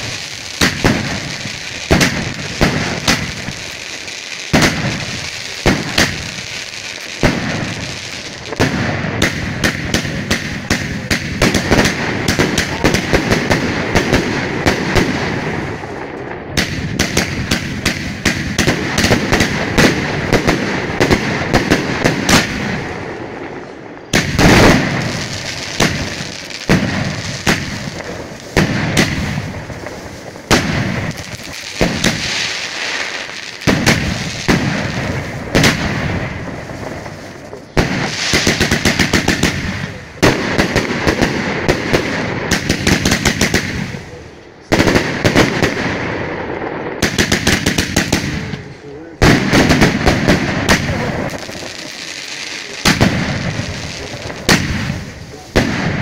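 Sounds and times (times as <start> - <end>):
fireworks booms: 0.0 - 56.0
fireworks shots and crackling: 0.0 - 56.0.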